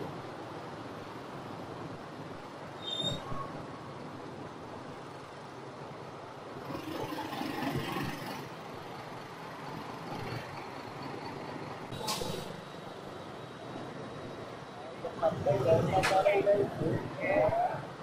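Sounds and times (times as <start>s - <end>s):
motorbike engines idling in traffic: 0.0s - 18.0s.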